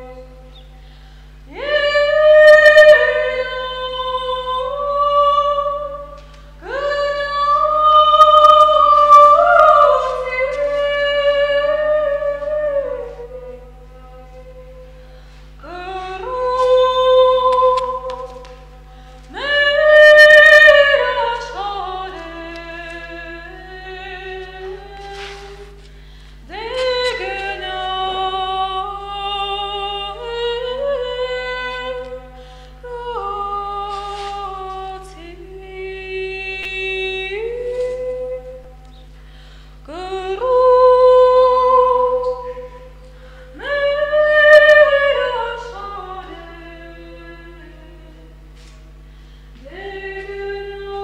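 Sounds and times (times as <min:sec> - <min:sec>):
woman singing unaccompanied: 0:00.0 - 0:00.7, 0:01.5 - 0:15.0, 0:15.6 - 0:39.0, 0:39.8 - 0:48.7, 0:49.6 - 0:51.0
low electrical hum: 0:00.0 - 0:51.0.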